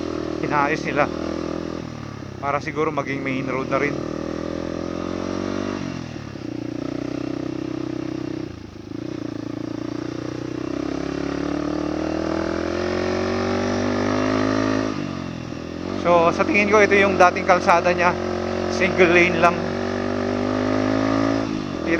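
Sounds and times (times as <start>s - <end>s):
motorcycle engine climbing: 0.0s - 21.9s.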